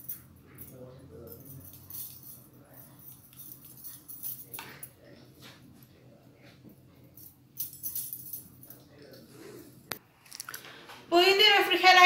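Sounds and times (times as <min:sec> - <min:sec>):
low steady hum: 0:00.0 - 0:11.2.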